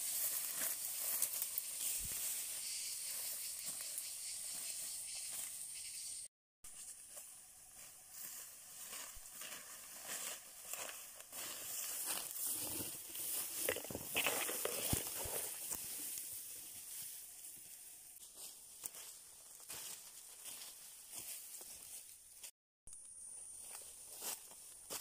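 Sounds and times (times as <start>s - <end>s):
cut grass brushing stalks: 0.0s - 6.0s, 6.7s - 22.5s
footsteps through dry grass: 0.0s - 6.0s, 6.6s - 22.5s, 23.4s - 25.0s.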